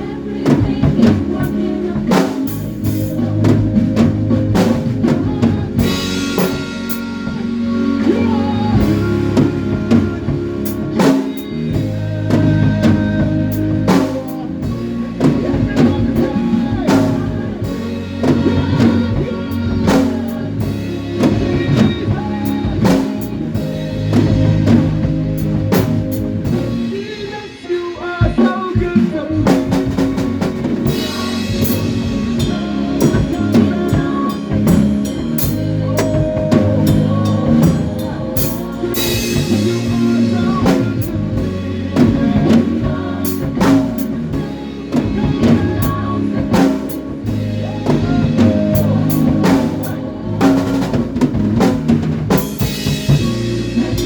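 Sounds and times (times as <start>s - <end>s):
drum kit kick and rimshots: 0.0s - 54.0s
live band playing: 0.0s - 54.0s.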